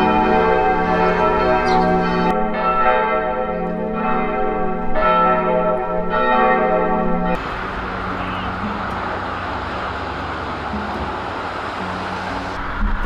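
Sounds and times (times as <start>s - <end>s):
church bells ringing: 0.0s - 12.8s.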